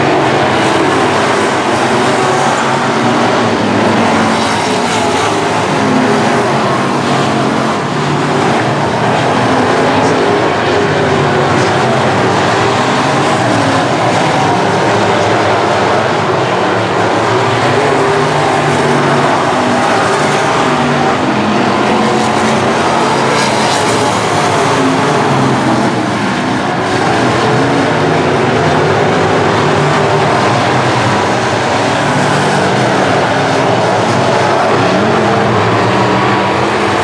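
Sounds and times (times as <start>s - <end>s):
race car engines: 0.0s - 37.0s.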